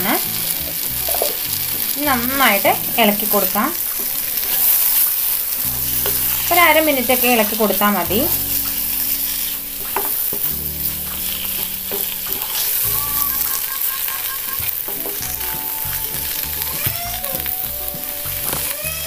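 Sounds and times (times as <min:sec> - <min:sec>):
wooden spatula scraping a pan: 0:00.0 - 0:18.8
masala sizzling in a pan: 0:00.0 - 0:19.0.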